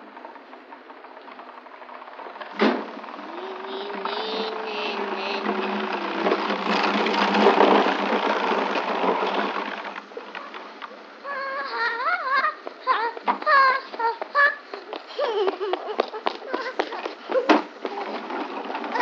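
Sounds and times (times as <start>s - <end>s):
plastic wheels rumbling on pavement: 0.0s - 19.0s.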